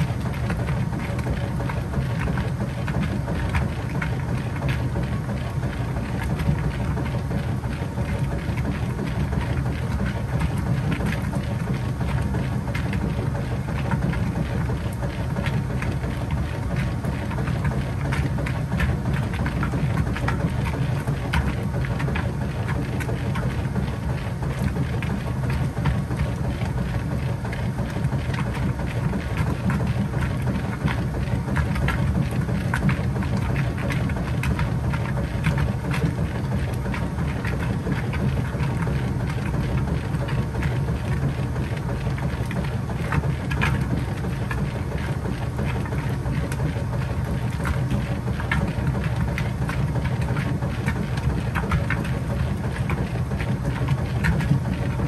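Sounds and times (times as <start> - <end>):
washing machine motor hum: 0.0 - 55.0
water sloshing in tub: 0.0 - 55.0.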